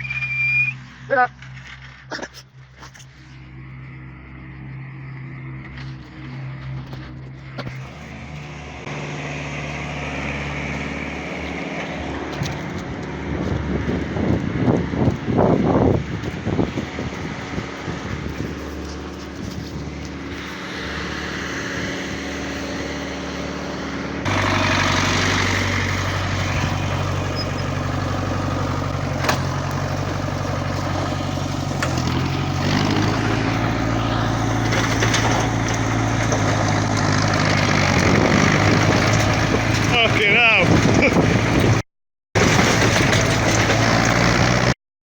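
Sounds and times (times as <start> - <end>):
work vehicle engine running: 0.0 - 41.8, 42.4 - 44.8.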